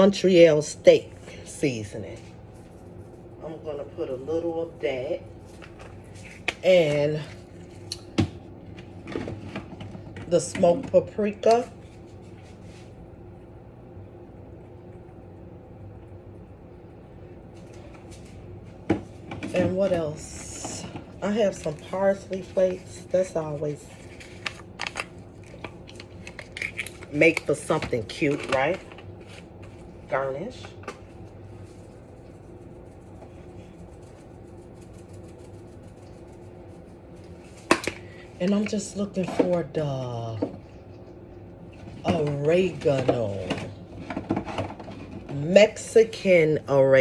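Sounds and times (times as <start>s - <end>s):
low background hum: 0.0s - 47.0s.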